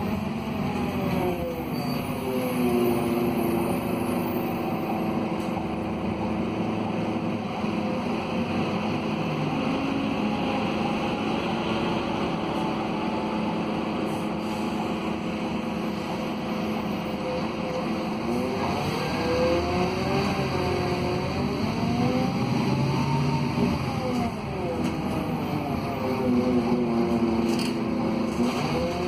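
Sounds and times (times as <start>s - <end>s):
bus diesel engine running: 0.0s - 29.0s
road and tyre noise: 0.0s - 29.0s.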